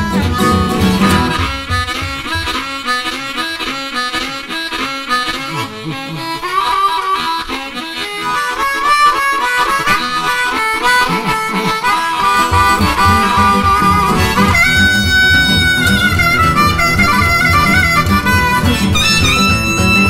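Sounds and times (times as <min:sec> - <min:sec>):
blues harmonica: 0:00.0 - 0:20.0
low rhythm section beat: 0:00.0 - 0:20.0.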